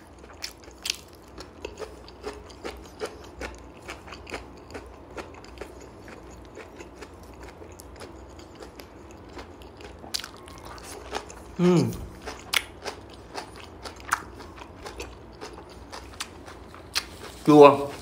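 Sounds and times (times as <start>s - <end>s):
mouth chewing crunchy food: 0.0s - 18.0s.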